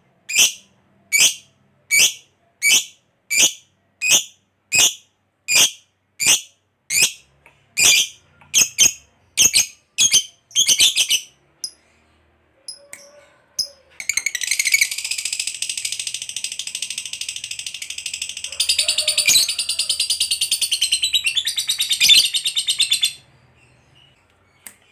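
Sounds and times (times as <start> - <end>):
lovebird chirping and trilling: 0.3 - 11.8, 12.7 - 24.2.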